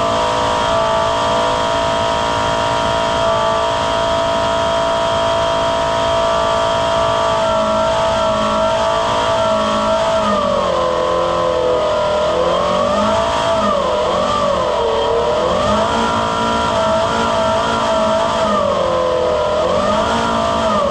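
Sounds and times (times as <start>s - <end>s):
blower whine over rushing air: 0.0s - 20.9s.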